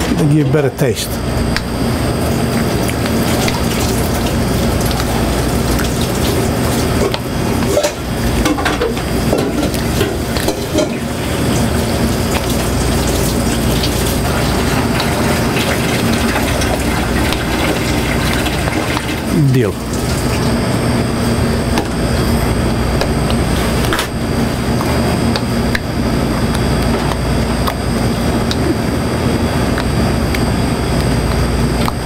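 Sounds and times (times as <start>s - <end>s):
low hum: 0.0s - 32.0s.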